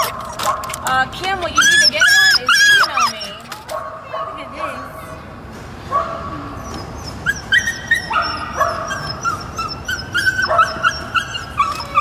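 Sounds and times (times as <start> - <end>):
dogs yapping and whining: 0.0 - 5.2, 5.9 - 12.0.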